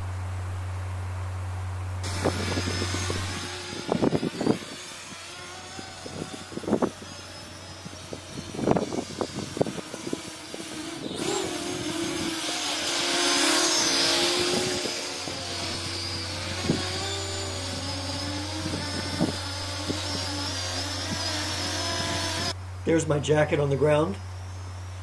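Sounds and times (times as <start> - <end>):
drone propellers buzzing: 0.0 - 22.7.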